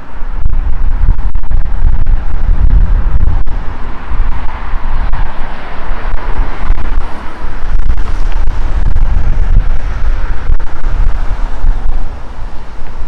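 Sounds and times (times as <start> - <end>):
road traffic passing: 0.0 - 13.0
wind buffeting microphone: 0.0 - 13.0.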